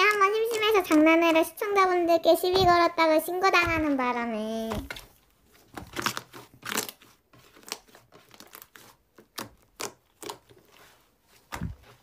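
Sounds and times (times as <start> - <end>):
slime crackling and squishing: 0.0 - 12.0.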